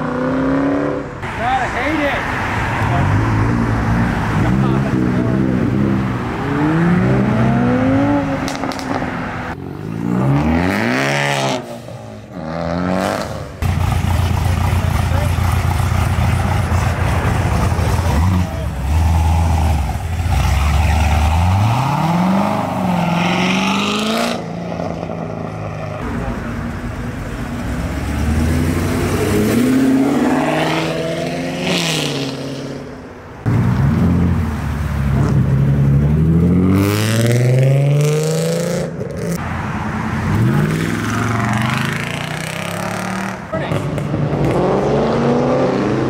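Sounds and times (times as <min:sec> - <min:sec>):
car engines revving away: 0:00.0 - 0:46.0.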